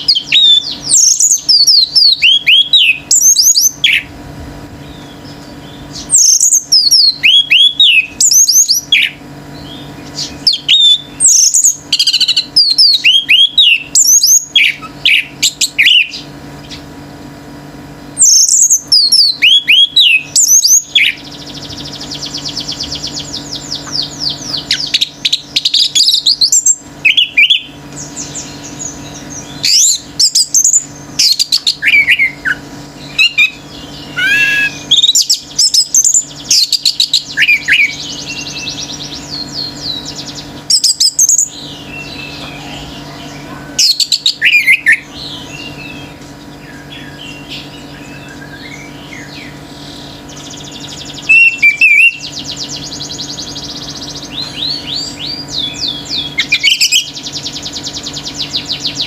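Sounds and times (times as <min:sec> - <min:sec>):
thrush singing whistled notes: 0:00.0 - 0:04.1, 0:04.8 - 0:16.3, 0:18.2 - 0:59.0
faint steady hum: 0:00.0 - 0:59.0.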